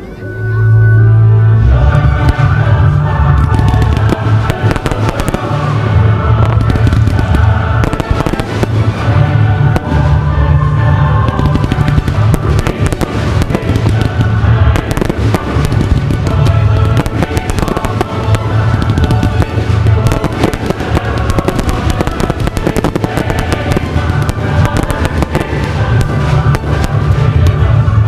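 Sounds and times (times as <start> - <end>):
loud music with deep bass: 0.3 - 28.0
fireworks bursting and crackling: 2.2 - 28.0.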